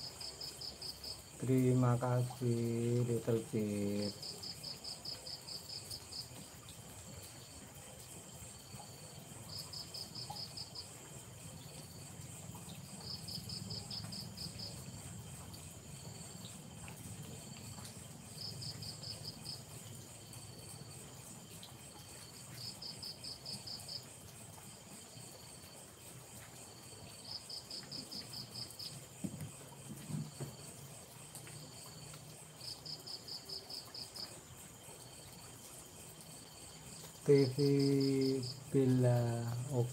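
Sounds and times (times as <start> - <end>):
cricket-like chirping: 0.0 - 39.9
high-pitched insect drone: 0.0 - 39.9.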